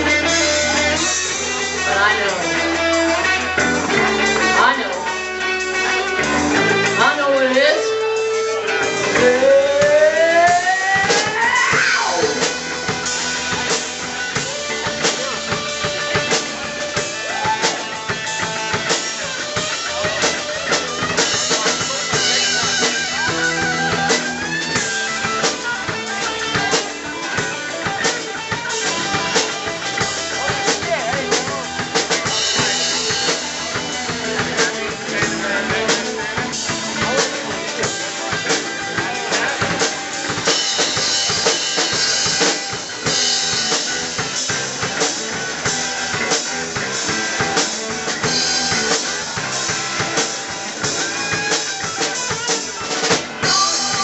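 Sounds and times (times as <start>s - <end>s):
electric guitar pitch glides: 0.0s - 46.1s, 47.8s - 54.0s
bass guitar: 0.0s - 54.0s
drum kit beat: 0.0s - 54.0s.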